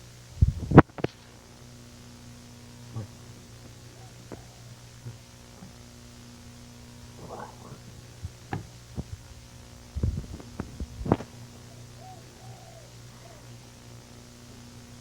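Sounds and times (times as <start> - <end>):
washing machine humming: 1.4 - 15.0.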